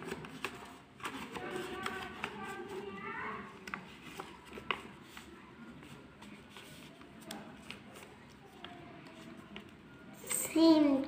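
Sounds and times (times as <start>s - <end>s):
paper rustling and crinkling: 0.0s - 9.8s.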